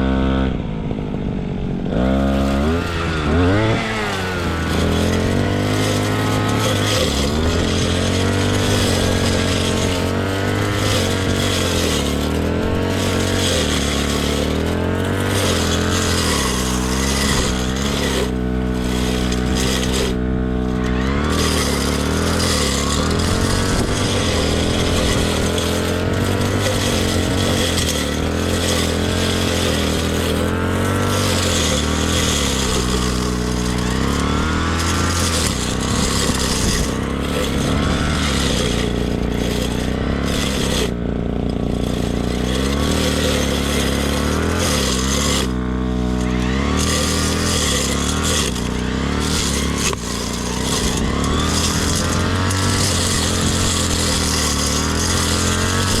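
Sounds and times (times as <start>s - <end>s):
brush cutter running: 0.0s - 56.0s.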